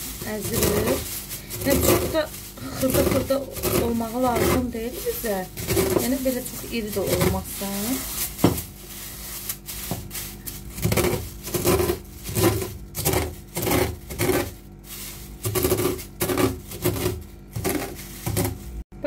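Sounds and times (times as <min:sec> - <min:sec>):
cornflakes crunching: 0:00.0 - 0:18.8
plastic bag crinkling: 0:00.0 - 0:18.8.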